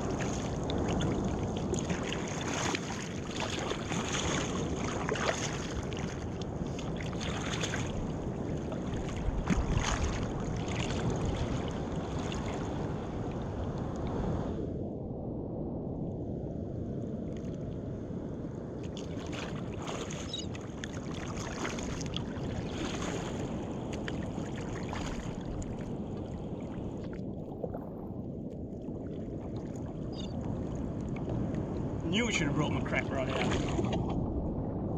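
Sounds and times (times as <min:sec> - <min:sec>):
water splashing against kayak: 0:00.0 - 0:14.1, 0:18.8 - 0:34.9
wind and sea rush: 0:00.0 - 0:34.9.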